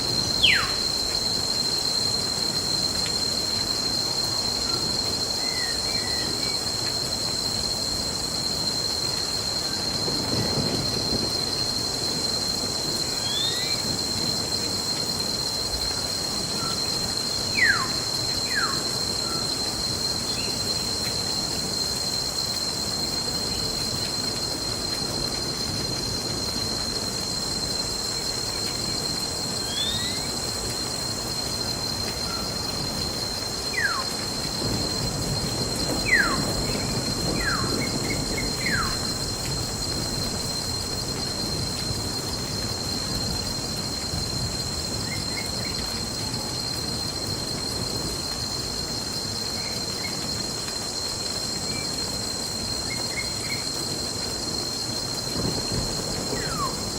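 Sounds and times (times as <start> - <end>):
high insect trill: 0.0 - 56.9
steady rain: 0.0 - 56.9.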